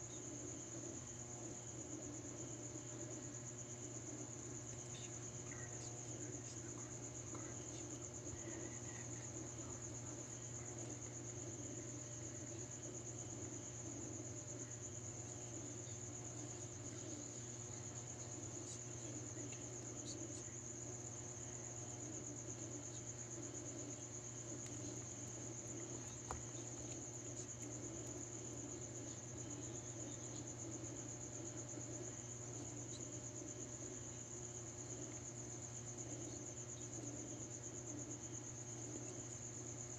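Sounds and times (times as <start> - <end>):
crickets trilling: 0.0 - 39.9
faint low hum: 0.0 - 39.9.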